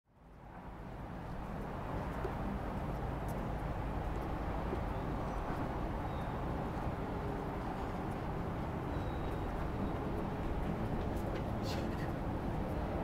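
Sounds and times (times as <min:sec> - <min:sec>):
distant traffic rumble: 0:00.1 - 0:13.0.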